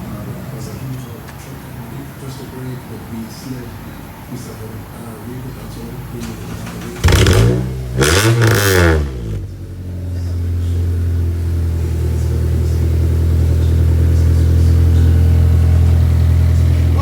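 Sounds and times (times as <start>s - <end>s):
car engine idling: 0.0s - 17.0s
car engine revving: 0.0s - 17.0s.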